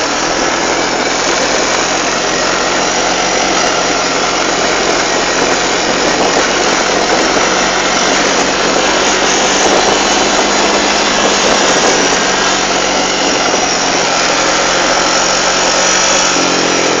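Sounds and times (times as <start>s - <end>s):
loud even rushing noise: 0.0s - 17.0s
vehicle engine humming: 0.0s - 17.0s.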